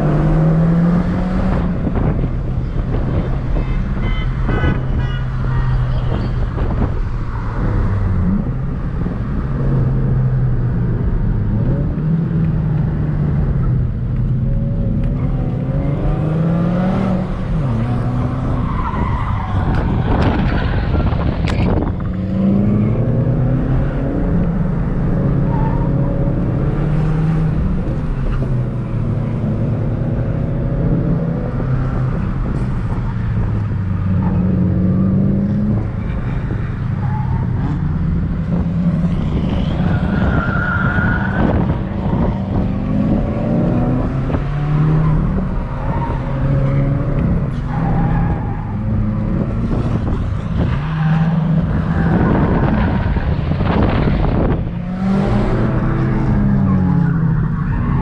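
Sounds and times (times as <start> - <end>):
car engine revving: 6.5 - 58.0.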